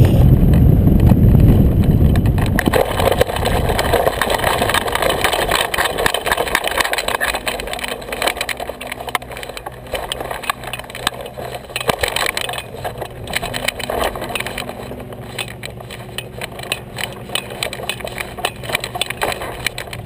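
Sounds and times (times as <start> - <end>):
steady engine hum: 0.0 - 20.0
metal frame rattling: 1.4 - 20.0.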